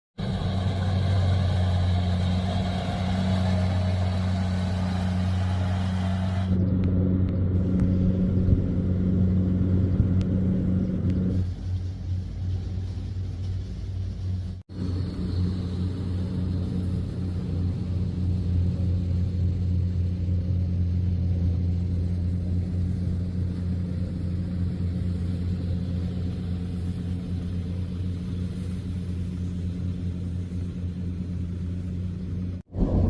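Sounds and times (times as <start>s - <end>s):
combine harvester engine droning: 0.2s - 33.0s.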